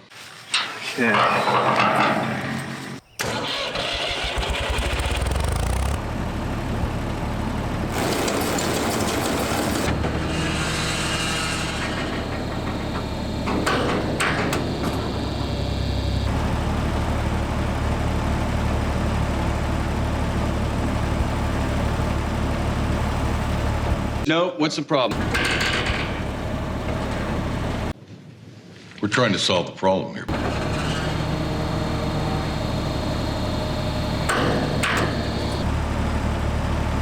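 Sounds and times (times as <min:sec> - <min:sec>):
tractor engine starting and running: 0:00.1 - 0:24.3, 0:25.1 - 0:28.0, 0:30.3 - 0:37.0.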